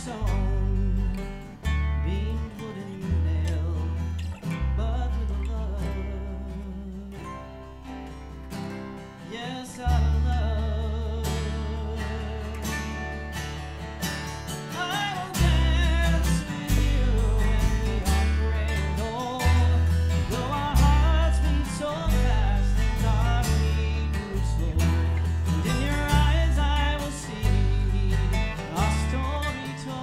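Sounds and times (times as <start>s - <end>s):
acoustic guitars strumming: 0.0s - 30.0s
bending lead melody: 0.0s - 30.0s
country band playing: 0.0s - 30.0s
low bass notes: 0.0s - 30.0s.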